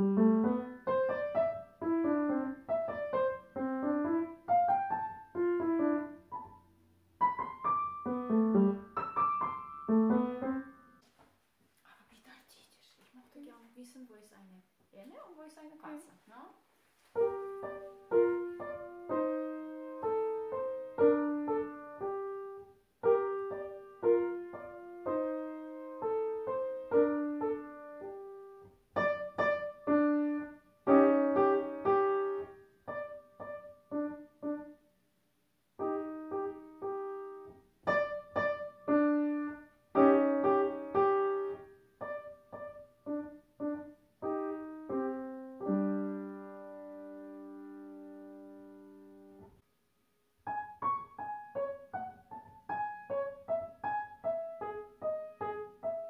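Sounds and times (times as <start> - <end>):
upright piano playing: 0.0 - 11.0, 17.2 - 34.8, 35.8 - 49.6, 50.4 - 56.0.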